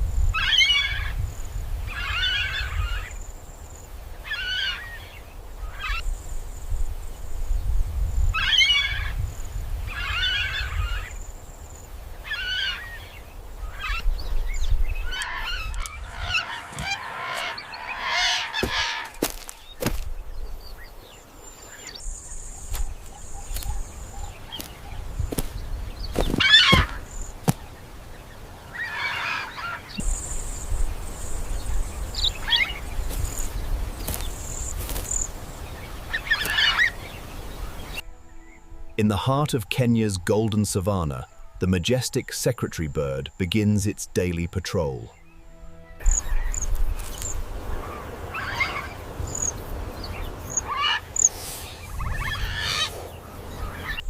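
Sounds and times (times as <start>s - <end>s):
bird harsh calls: 0.3s - 1.2s, 1.9s - 3.2s, 4.2s - 6.2s, 8.3s - 39.0s, 45.0s - 54.0s.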